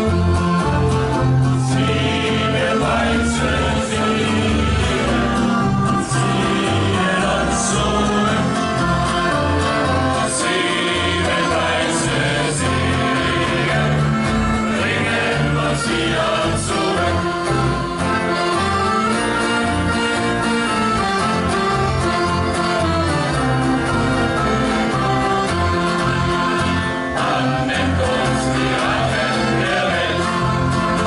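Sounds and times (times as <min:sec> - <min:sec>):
instrumental accompaniment: 0:00.0 - 0:31.0
steady bass line: 0:00.0 - 0:31.0
choir singing: 0:00.9 - 0:19.9, 0:22.7 - 0:31.0.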